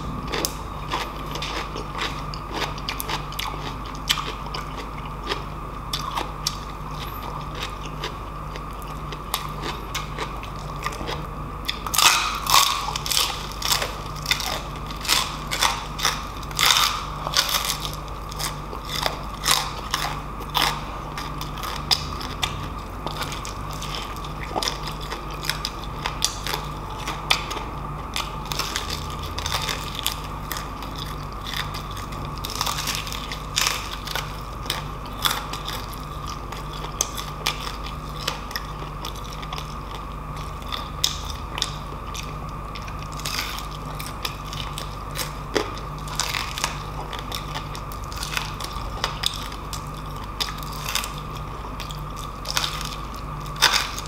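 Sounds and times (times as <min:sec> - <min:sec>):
crispy pork skin crunching: 0:00.0 - 0:54.0
faint steady hum: 0:00.0 - 0:54.0.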